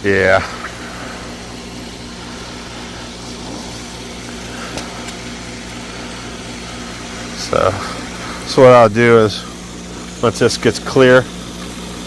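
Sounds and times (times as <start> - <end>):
electric pump motor hum: 0.0 - 12.0.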